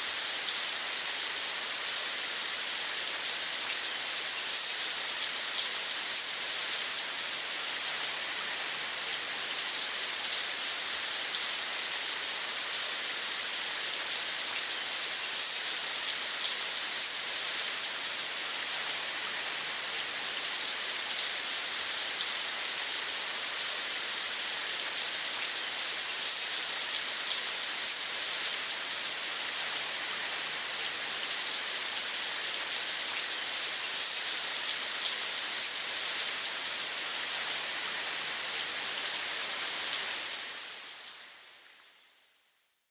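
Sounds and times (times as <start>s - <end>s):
steady rain falling: 0.0s - 42.4s.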